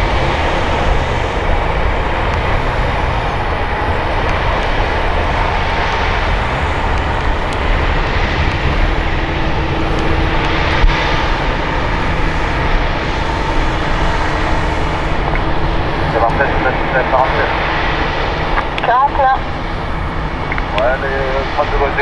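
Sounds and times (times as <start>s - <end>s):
propeller drone: 0.0s - 22.0s
turboprop engines roaring: 0.0s - 22.0s.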